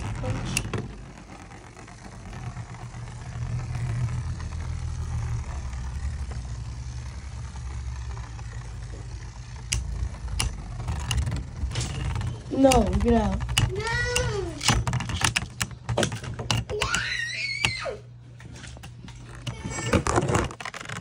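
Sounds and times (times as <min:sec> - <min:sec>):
spinning tops whirring: 0:00.0 - 0:21.0.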